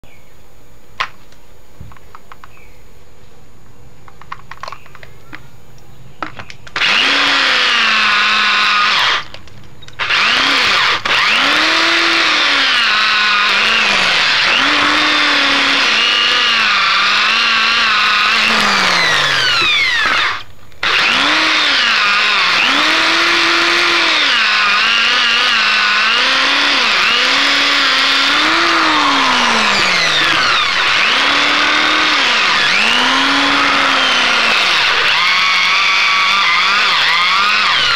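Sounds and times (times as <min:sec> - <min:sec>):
electric drill grinding shell: 0:06.7 - 0:37.9.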